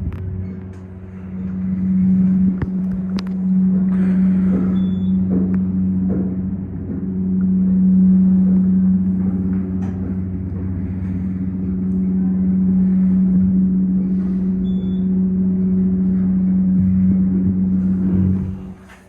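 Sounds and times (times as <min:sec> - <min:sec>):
elevator pump motor humming: 0:00.0 - 0:19.0.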